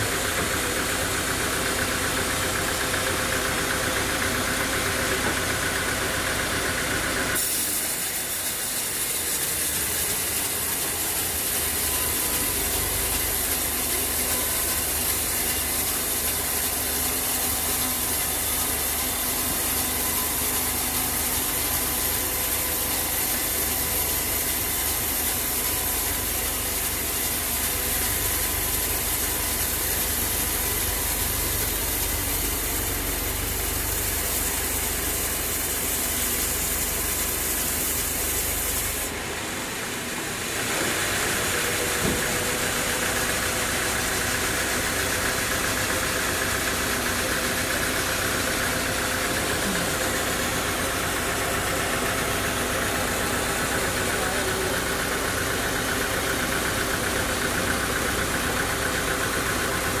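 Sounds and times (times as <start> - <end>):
different steady running machine: 0.0 - 60.0
sawmill machinery running: 0.0 - 60.0.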